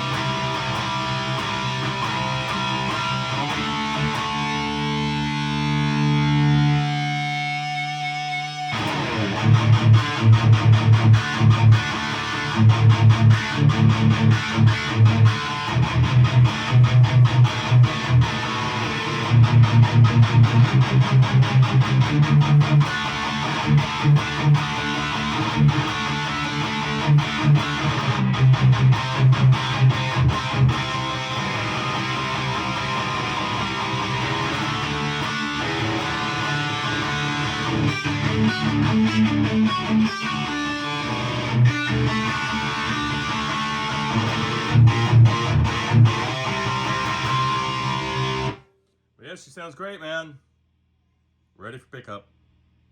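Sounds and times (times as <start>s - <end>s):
distorted electric guitar riffs: 0.0s - 48.7s.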